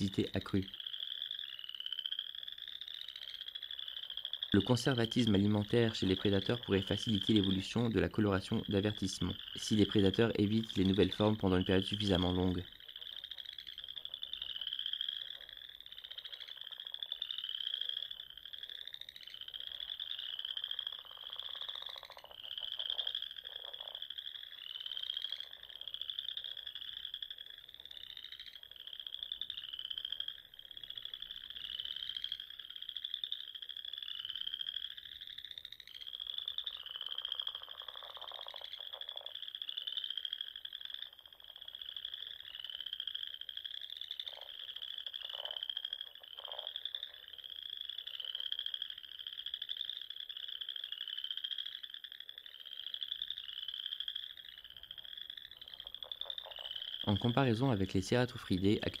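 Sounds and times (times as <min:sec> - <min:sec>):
frogs chirping trills: 0:00.0 - 0:59.0.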